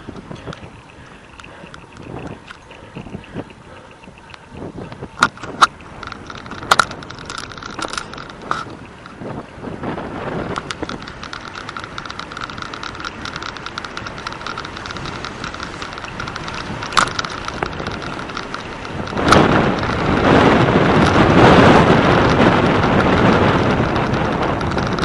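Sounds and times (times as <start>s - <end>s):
rapid light ticking: 0.0s - 25.0s
wind rushing over microphone: 0.0s - 25.0s.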